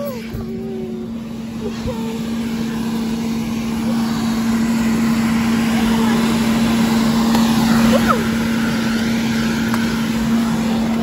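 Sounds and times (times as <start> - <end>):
electric blower motor hum: 0.0 - 11.0.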